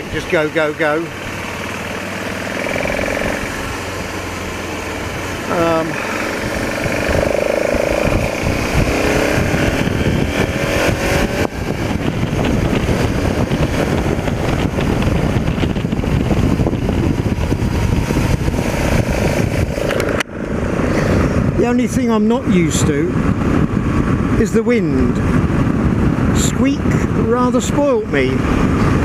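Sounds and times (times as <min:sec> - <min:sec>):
motorcycle engine accelerating: 0:00.0 - 0:29.0
wind rush on microphone: 0:00.0 - 0:29.0.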